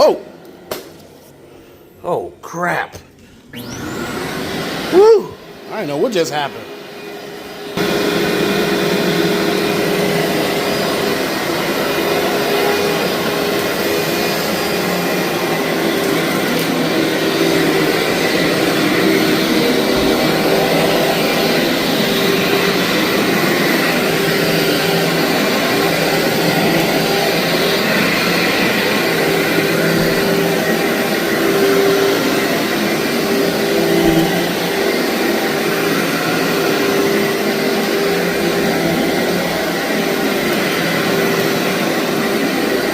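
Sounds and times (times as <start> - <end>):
vacuum cleaner on carpet: 0.0 - 2.2, 3.4 - 42.9.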